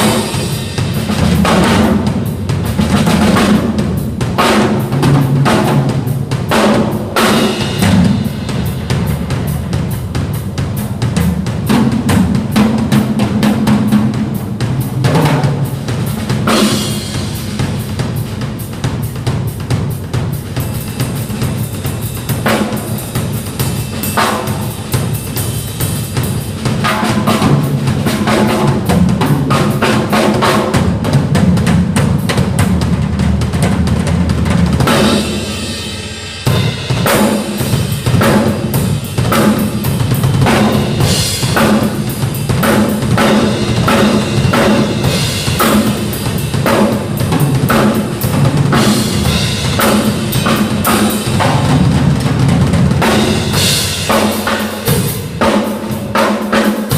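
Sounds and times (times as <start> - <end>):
drum kit playing fast: 0.0 - 56.9.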